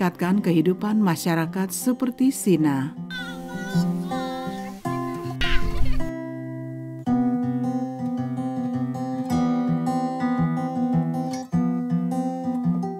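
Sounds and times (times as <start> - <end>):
acoustic guitar music: 0.0 - 12.9.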